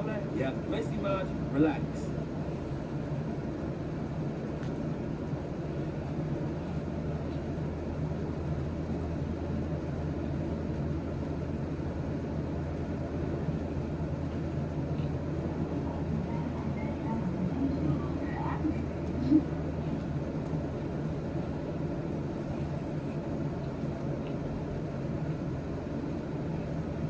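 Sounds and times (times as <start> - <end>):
constant low hum: 0.0 - 27.0
steady low rumble: 0.0 - 27.0.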